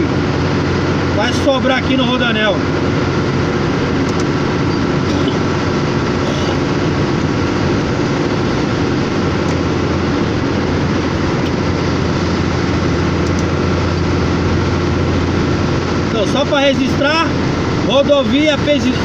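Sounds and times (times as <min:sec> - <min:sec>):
truck engine drone: 0:00.0 - 0:19.0.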